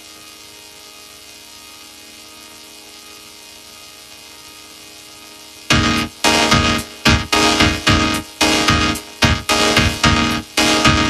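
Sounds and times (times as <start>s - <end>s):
static hiss: 0.0s - 11.0s
steady electronic hum: 0.0s - 11.0s.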